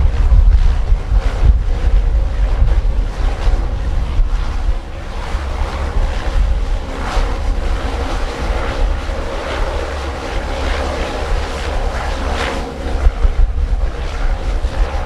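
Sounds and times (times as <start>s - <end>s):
jet engines at takeoff power: 0.0s - 15.0s
wind buffeting microphone: 0.0s - 15.0s.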